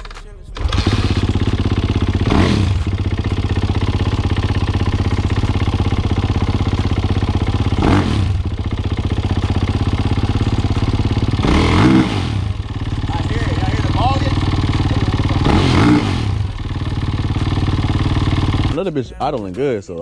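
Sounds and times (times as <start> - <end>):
dirt bike engine idling and revving: 0.0 - 19.6.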